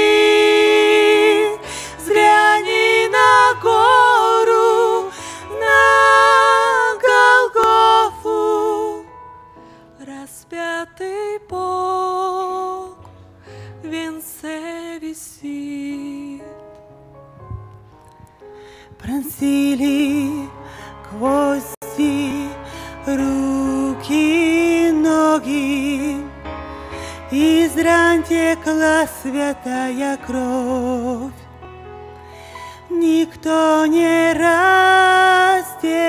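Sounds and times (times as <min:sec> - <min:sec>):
woman singing a hymn: 0:00.0 - 0:09.2, 0:10.0 - 0:13.1, 0:13.7 - 0:16.6, 0:19.0 - 0:26.4, 0:27.2 - 0:31.4, 0:32.7 - 0:36.0.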